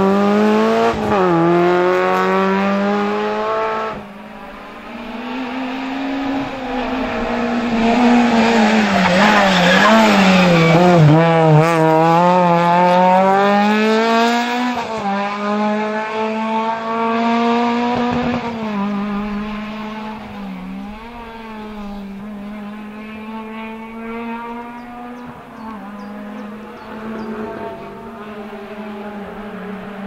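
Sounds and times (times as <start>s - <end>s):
rally car engine at high revs: 0.0s - 30.0s.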